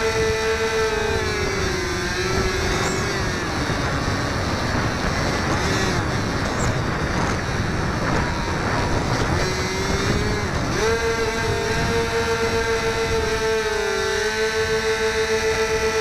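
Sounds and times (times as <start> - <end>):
model plane electric motor whining: 0.0 - 16.0
wind rush on microphone: 0.0 - 16.0.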